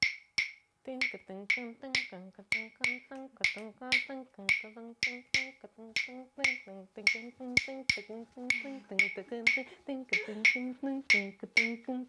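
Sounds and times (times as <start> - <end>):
person singing wordless notes: 0.9 - 12.0.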